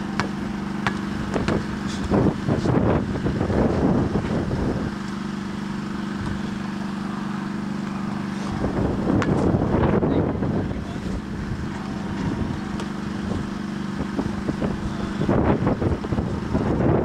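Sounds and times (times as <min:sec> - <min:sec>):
wind buffeting microphone: 0:00.0 - 0:06.7, 0:07.5 - 0:17.0
steady motor hum: 0:00.0 - 0:17.0.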